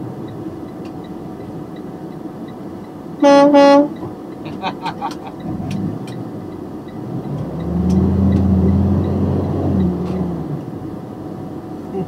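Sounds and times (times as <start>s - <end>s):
vehicle low-pitched drone: 0.0s - 12.0s.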